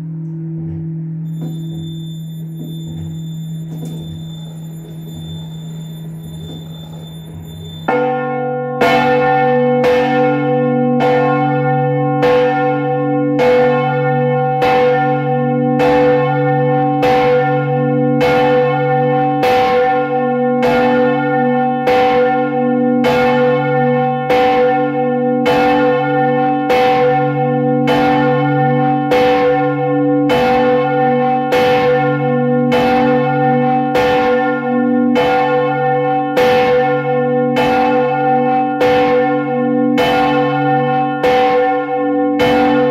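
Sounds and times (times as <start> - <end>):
large church bell ringing: 0.0 - 42.9.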